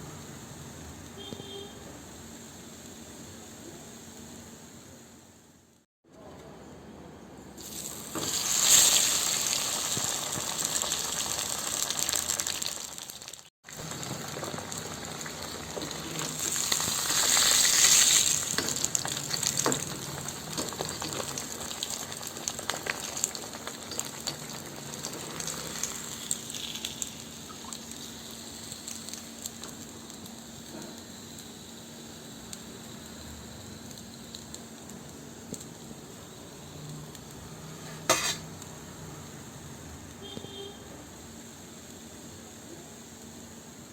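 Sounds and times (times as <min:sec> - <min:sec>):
fish sizzling in hot oil: 0:07.6 - 0:43.9.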